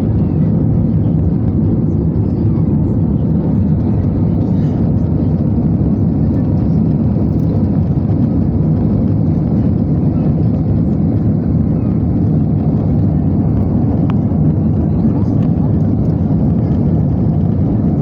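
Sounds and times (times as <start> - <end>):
airplane rumble in flight: 0.0 - 18.0.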